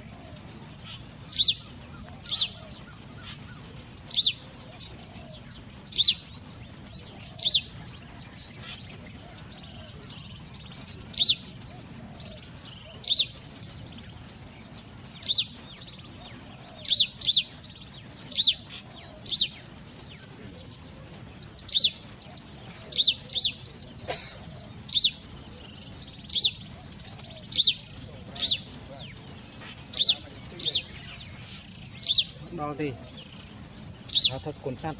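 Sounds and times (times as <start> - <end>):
bird chirping: 0.0 - 34.9.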